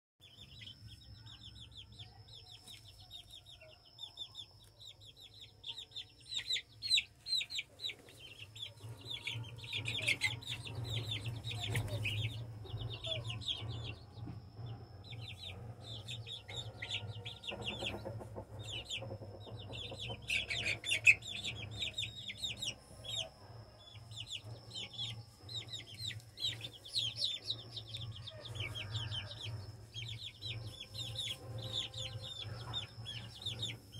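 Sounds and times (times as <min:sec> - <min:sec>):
chicks peeping: 0:00.2 - 0:33.9
steady low hum: 0:00.2 - 0:33.9.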